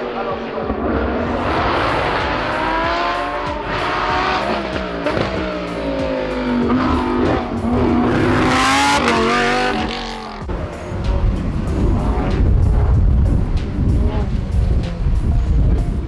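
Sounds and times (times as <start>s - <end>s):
race car engine under hard throttle: 0.0s - 16.0s.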